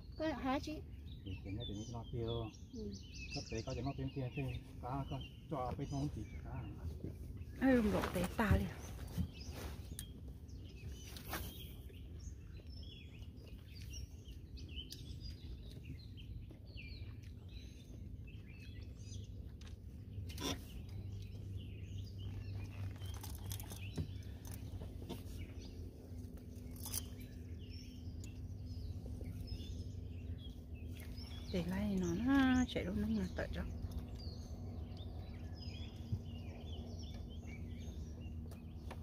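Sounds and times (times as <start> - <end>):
bird chirps: 0.0 - 39.0
steady low hum: 0.0 - 39.0.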